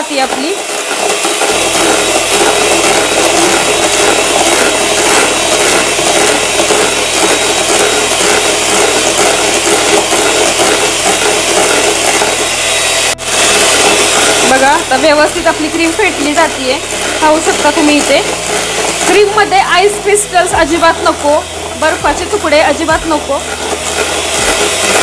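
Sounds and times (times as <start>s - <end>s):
electric beater whirring: 0.0s - 25.0s.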